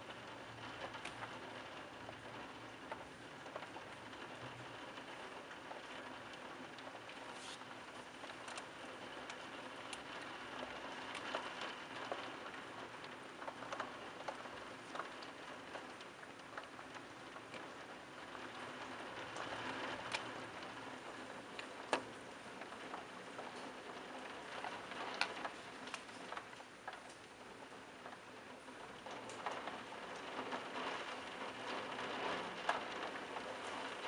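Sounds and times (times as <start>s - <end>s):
rain falling: 0.0s - 34.0s
raindrops ticking close by: 0.0s - 34.0s.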